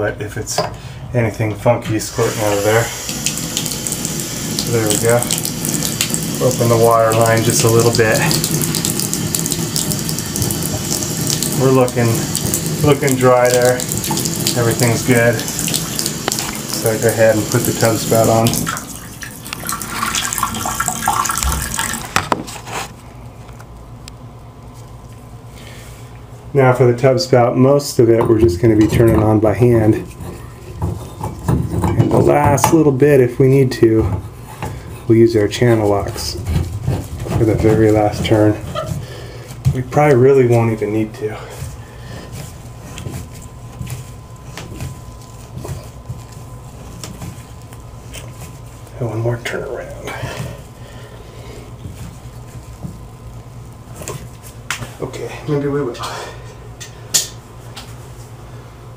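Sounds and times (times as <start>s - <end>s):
steady low hum: 0.0s - 58.9s
water running into bathtub: 1.9s - 22.9s, 28.4s - 56.4s.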